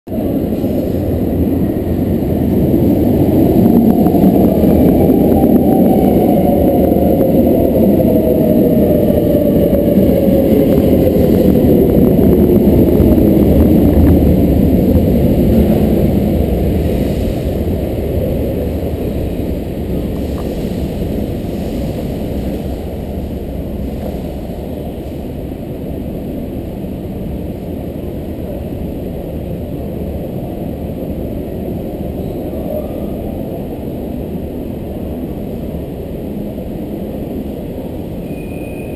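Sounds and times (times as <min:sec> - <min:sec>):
metro train rumble: 0:00.1 - 0:38.9.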